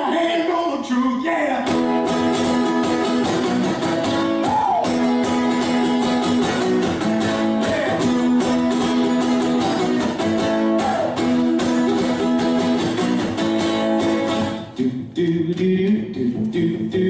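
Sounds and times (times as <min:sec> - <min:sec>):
strummed guitar chords: 0:01.6 - 0:17.0.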